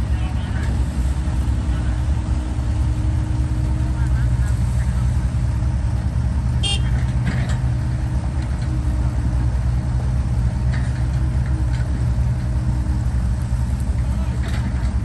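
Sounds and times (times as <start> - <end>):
bulldozer diesel engine idling: 0.0 - 15.0.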